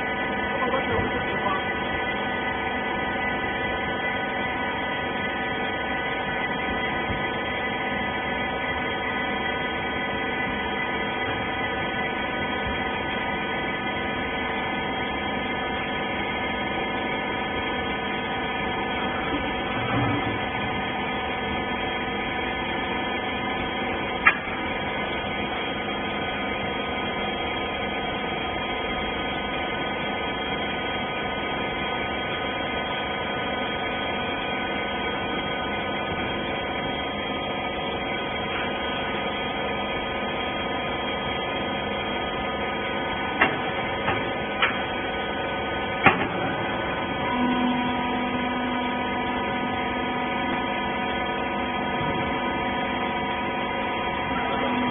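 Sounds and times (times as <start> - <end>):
hydraulic machine hum: 0.0 - 54.9
low machine tone: 0.0 - 54.9.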